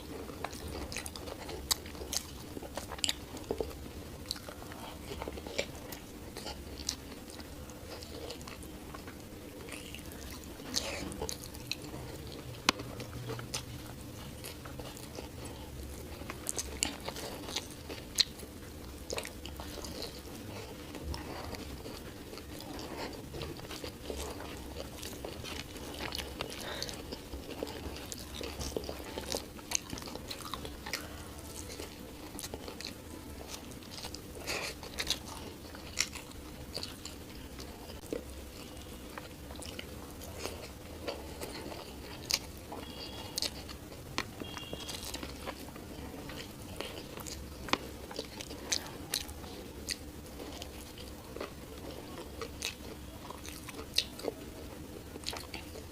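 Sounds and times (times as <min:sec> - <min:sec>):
person chewing and crunching: 0:00.0 - 0:55.9
steady low hum: 0:00.0 - 0:55.9.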